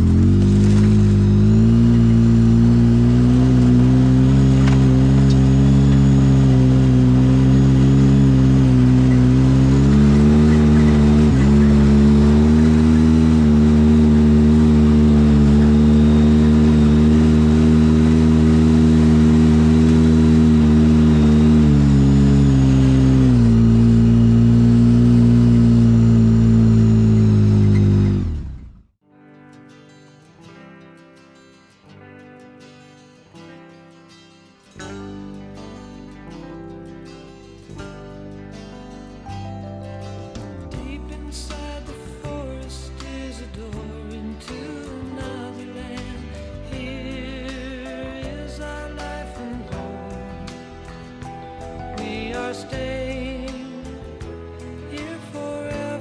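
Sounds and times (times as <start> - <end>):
vehicle engine running: 0.0 - 29.0, 40.0 - 56.0.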